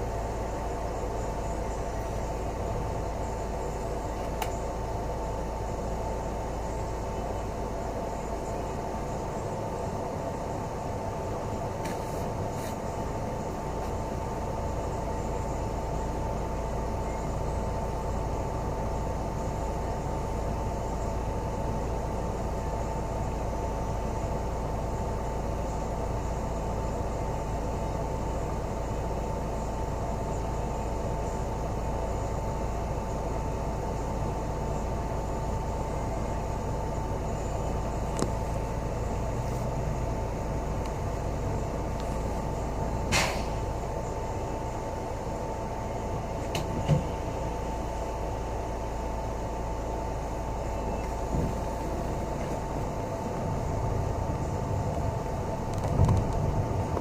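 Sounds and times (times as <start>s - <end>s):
bus engine and road rumble: 0.0s - 57.0s
constant hum: 0.0s - 57.0s.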